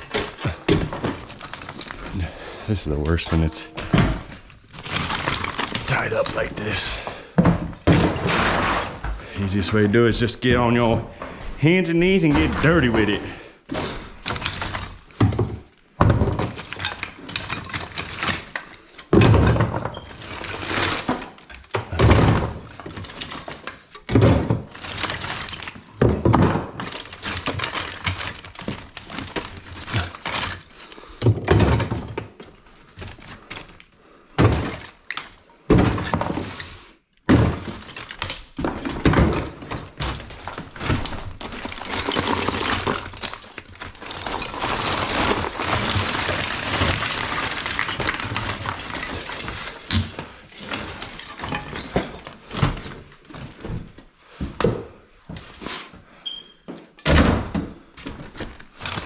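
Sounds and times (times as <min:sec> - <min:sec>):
plaster debris thudding and crashing: 0:00.0 - 0:55.6, 0:56.9 - 0:59.0
debris crumbling and scraping: 0:00.0 - 0:59.0.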